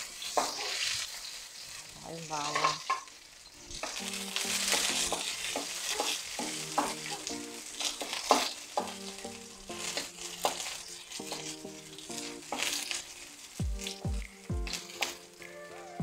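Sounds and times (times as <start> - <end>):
wooden spatula scraping pan: 0.0 - 3.1, 3.7 - 15.6
food sizzling in hot oil: 0.0 - 16.0.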